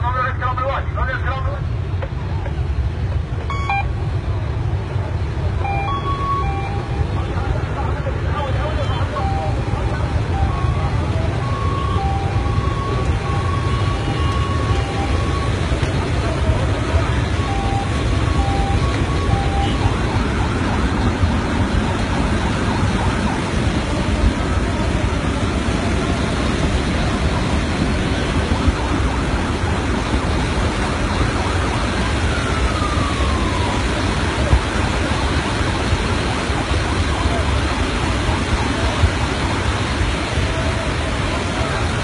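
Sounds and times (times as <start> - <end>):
flood water rushing over rocks: 1.6 - 42.0.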